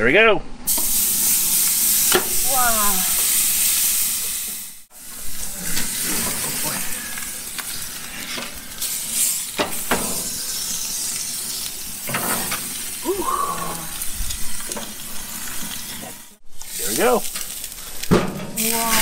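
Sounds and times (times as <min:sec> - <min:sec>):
steaks sizzling on a grill: 0:00.7 - 0:19.0.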